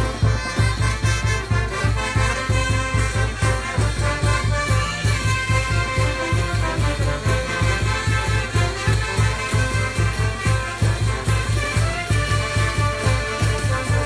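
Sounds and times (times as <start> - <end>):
bass drum beat: 0.0 - 14.0
brass band horns: 0.0 - 14.0.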